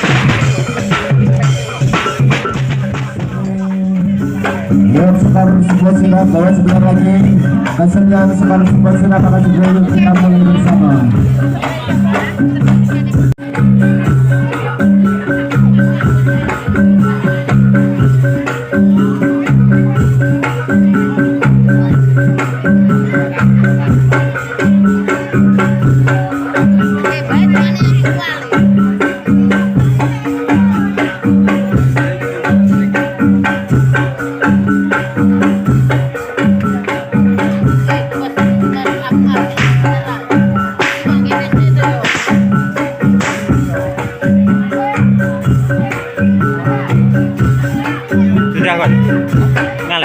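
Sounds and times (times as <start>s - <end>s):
rattling percussion: 0.0s - 50.0s
tuned struck percussion pattern: 0.0s - 50.0s.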